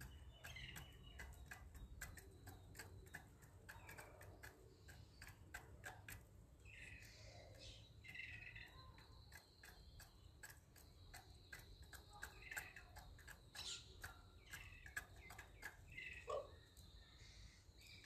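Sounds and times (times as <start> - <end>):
birds pecking at grain: 0.0 - 18.0.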